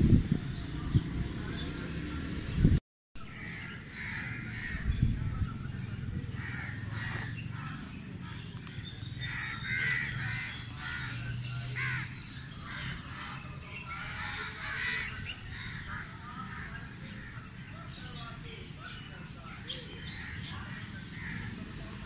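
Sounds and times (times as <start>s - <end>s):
birds calling: 3.2s - 22.0s.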